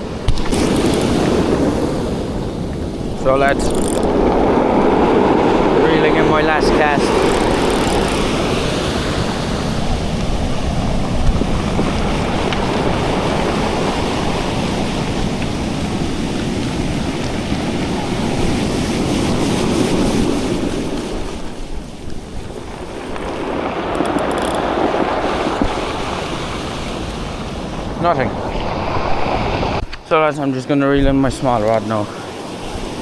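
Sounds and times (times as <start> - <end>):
surf washing on a beach: 0.0 - 33.0
wind buffeting microphone: 0.0 - 33.0.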